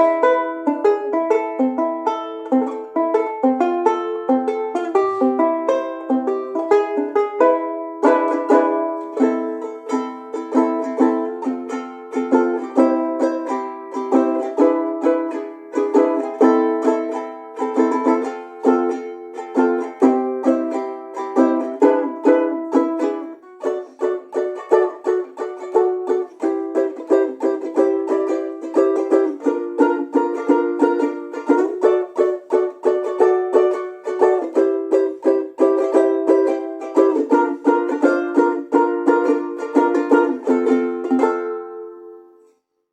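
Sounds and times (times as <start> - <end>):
banjolele strummed and plucked: 0.0 - 42.6.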